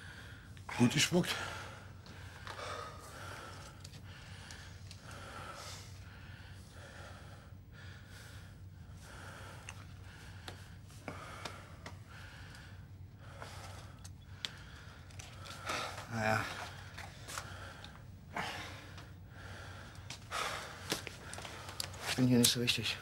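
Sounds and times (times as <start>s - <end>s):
man breathing heavily: 0.0s - 22.2s.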